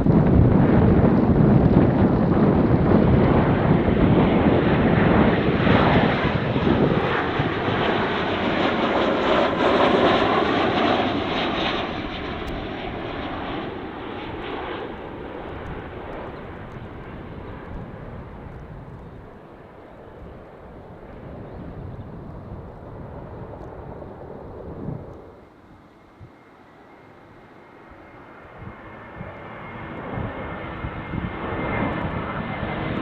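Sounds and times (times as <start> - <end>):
jet airliner passing overhead: 0.0 - 33.0.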